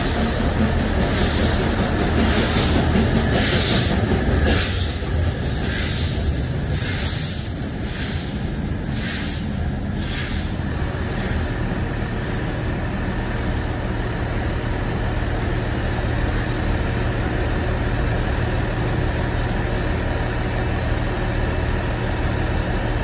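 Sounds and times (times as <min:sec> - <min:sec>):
train diesel engine idling: 0:00.0 - 0:23.0.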